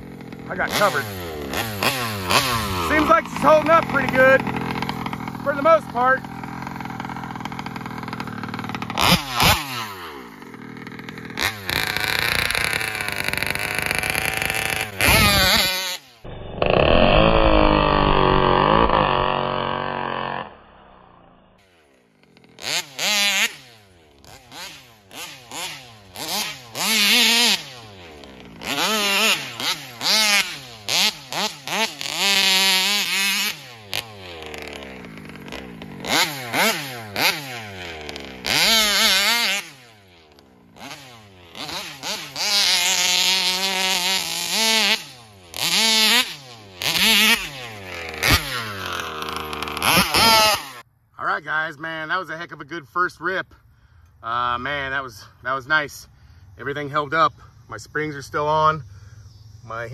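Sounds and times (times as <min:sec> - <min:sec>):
model buggy engine revving: 0:00.0 - 0:50.9.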